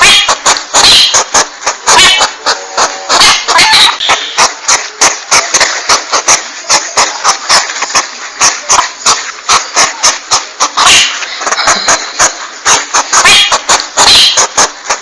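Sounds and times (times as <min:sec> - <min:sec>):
sharp rapid clicks: 0:00.0 - 0:15.0
steady hiss: 0:00.0 - 0:15.0.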